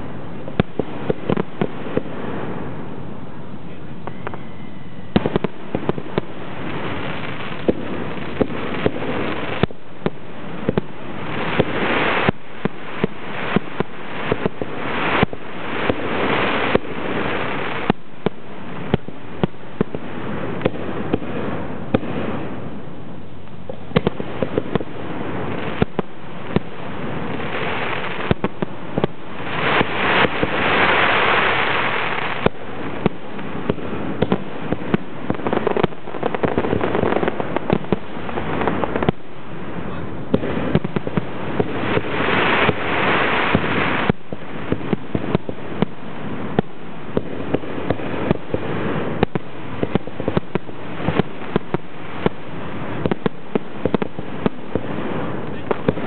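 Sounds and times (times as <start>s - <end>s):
fireworks hissing crackle: 0.0s - 56.0s
fireworks launching and bursting: 0.0s - 56.0s.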